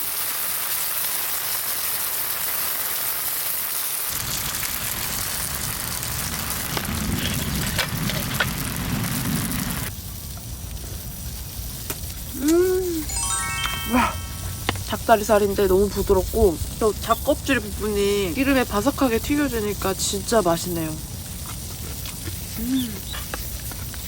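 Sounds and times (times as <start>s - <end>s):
heavy rain hissing: 0.0s - 21.4s, 22.4s - 23.6s.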